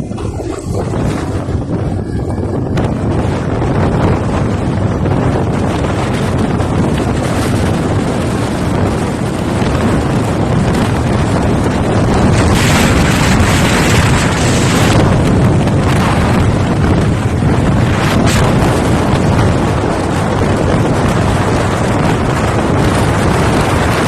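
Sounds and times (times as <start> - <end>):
motorcycle engine and road rumble: 0.0 - 24.0
wind on microphone: 0.0 - 24.0.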